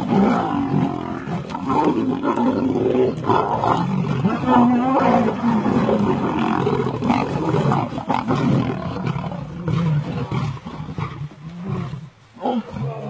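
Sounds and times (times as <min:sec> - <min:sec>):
lions growling and roaring: 0:00.0 - 0:13.0.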